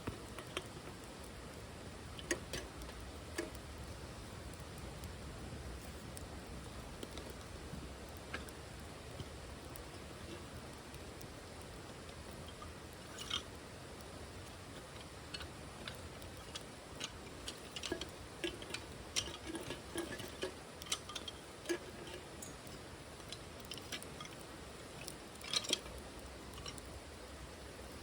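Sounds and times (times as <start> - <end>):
faint steady hiss: 0.0 - 28.0
wood fire crackling: 0.0 - 28.0.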